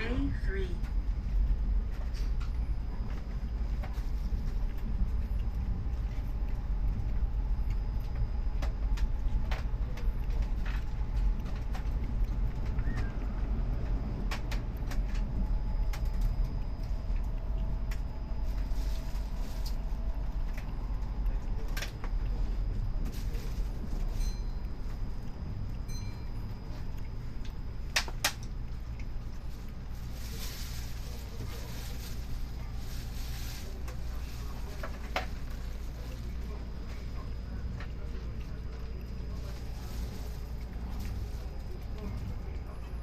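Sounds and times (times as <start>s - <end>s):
faint whine: 0.0s - 43.0s.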